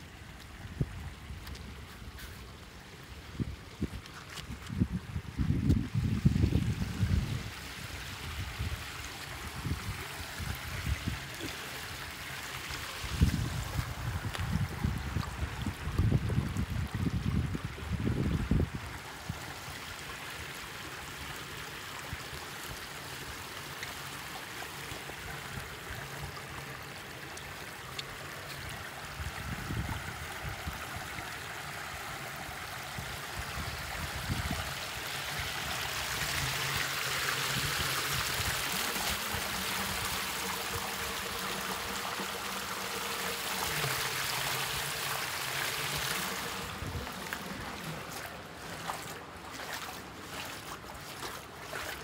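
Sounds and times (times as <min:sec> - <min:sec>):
floodwater splashing over rocks: 0:00.0 - 0:52.0
water pouring over a ledge: 0:05.8 - 0:52.0.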